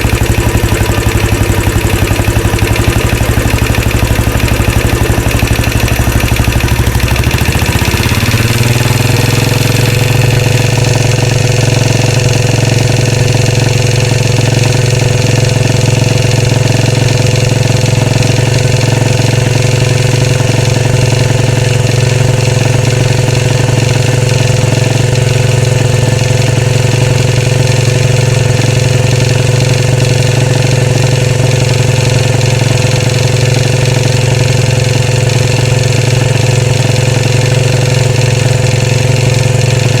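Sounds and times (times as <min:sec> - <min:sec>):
motorcycle engine idling: 0:00.0 - 0:40.0
rattle: 0:00.0 - 0:40.0.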